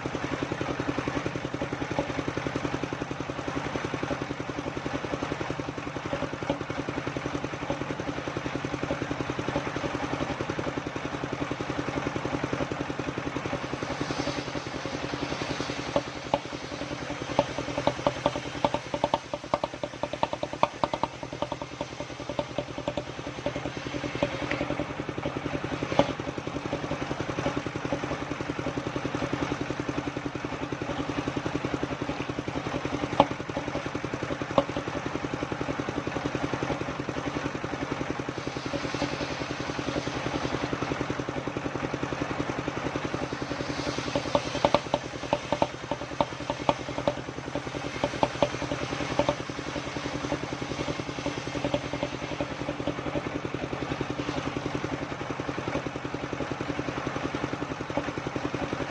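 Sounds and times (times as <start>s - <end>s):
sawmill engine running: 0.0s - 58.9s.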